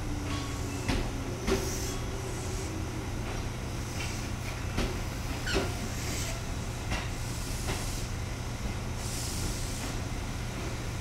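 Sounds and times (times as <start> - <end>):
train low hum: 0.0 - 11.0.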